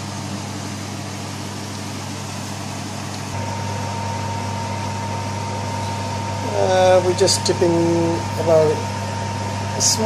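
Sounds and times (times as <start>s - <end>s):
mechanical hum with low drone: 0.0s - 10.0s.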